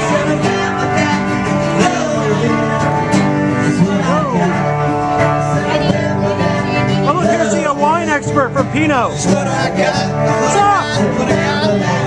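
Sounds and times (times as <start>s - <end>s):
guitar: 0.0s - 12.0s
live country band playing: 0.0s - 12.0s.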